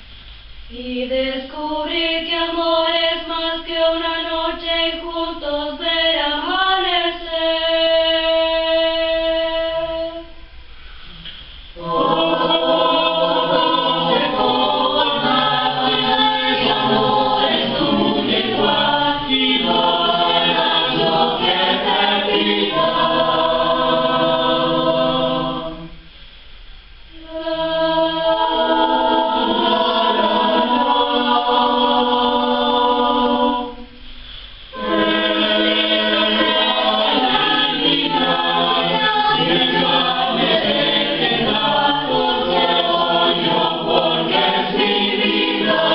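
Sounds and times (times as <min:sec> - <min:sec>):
choir singing a cappella: 0:00.7 - 0:10.4, 0:11.7 - 0:26.1, 0:27.1 - 0:45.9.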